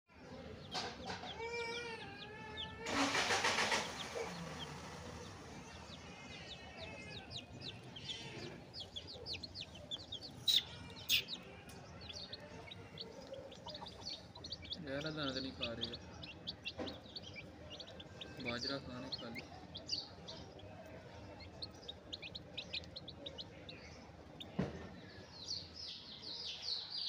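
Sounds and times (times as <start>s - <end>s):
chicks peeping: 0.2s - 27.0s.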